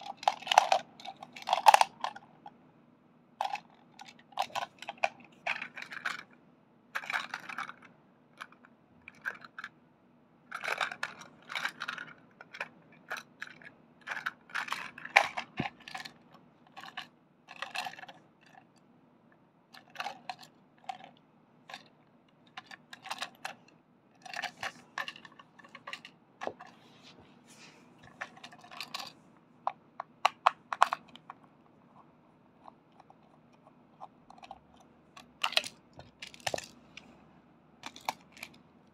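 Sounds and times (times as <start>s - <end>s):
plastic toy train clattering: 0.0s - 2.4s, 3.4s - 6.4s, 7.0s - 9.7s, 10.5s - 18.7s, 19.8s - 26.8s, 28.0s - 31.4s, 32.6s - 37.1s, 37.8s - 38.6s.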